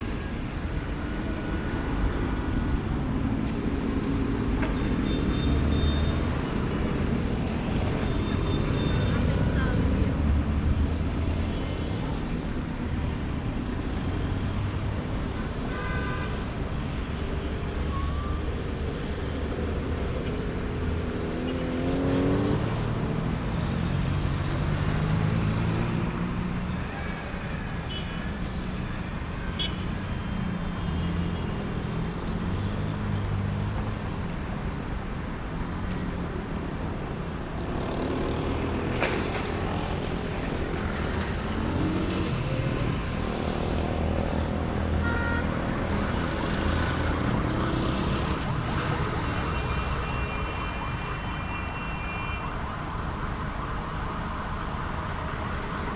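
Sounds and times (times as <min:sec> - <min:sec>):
street traffic rumble: 0:00.0 - 0:55.9.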